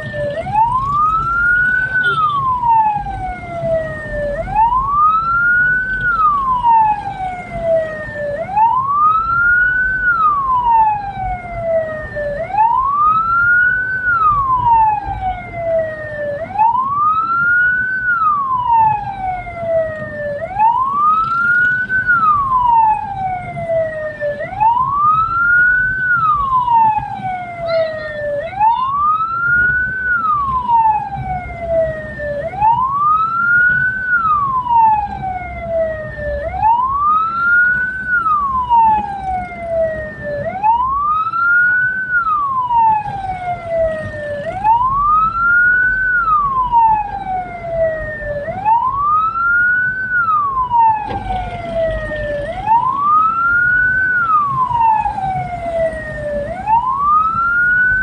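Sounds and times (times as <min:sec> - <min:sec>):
electronic siren wailing: 0:00.0 - 0:58.0
vehicle rumble: 0:00.0 - 0:58.0.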